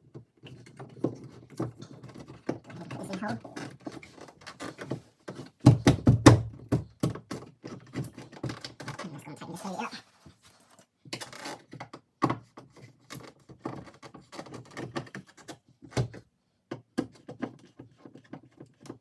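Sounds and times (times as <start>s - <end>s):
clicks and knocks at electrical box: 0.0s - 9.0s, 11.1s - 19.0s.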